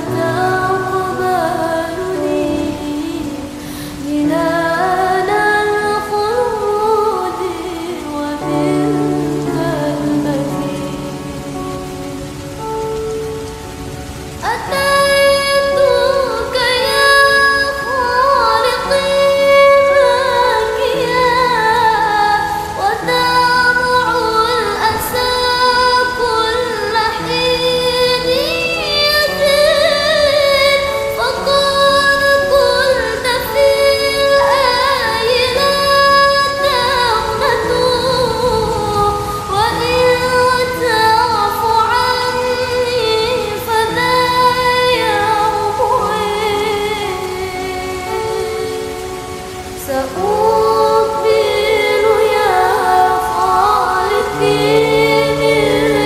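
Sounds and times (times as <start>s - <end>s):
layered wordless vocal melody: 0.0s - 56.0s
rain: 0.0s - 56.0s.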